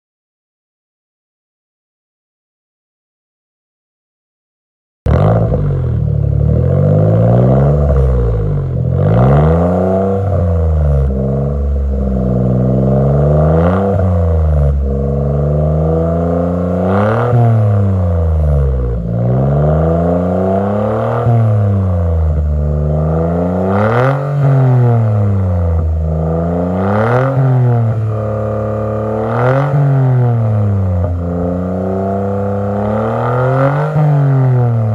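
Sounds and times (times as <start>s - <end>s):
car engine revving and idling: 5.1s - 34.9s.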